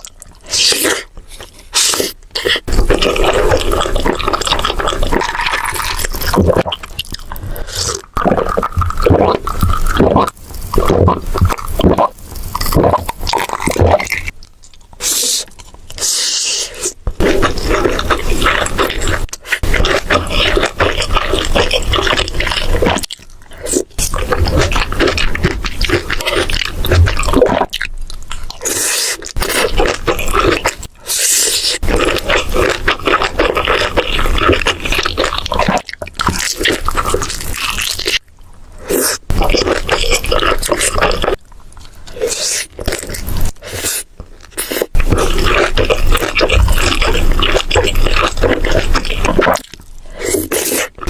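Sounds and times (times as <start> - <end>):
food being bitten and chewed: 0.0 - 51.0.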